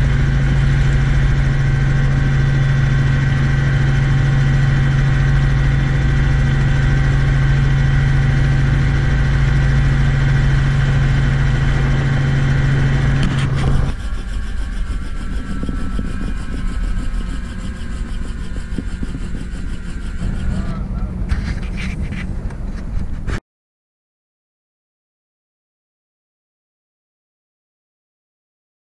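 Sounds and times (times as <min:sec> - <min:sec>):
helicopter piston engine idling: 0:00.0 - 0:23.4
helicopter rotor swishing: 0:00.0 - 0:23.4.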